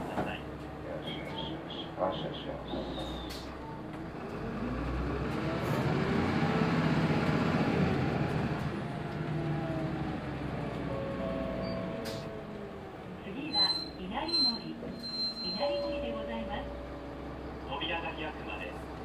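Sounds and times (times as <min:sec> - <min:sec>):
bus diesel engine pulling away: 0:00.0 - 0:19.0.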